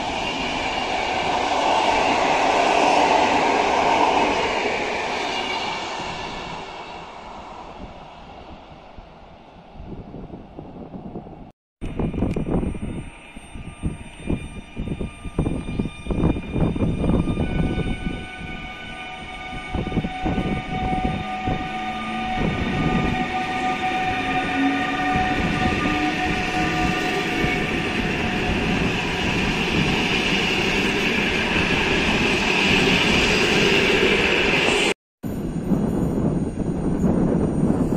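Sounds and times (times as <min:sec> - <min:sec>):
locomotive whining tones: 0:00.0 - 0:08.8, 0:11.8 - 0:35.0.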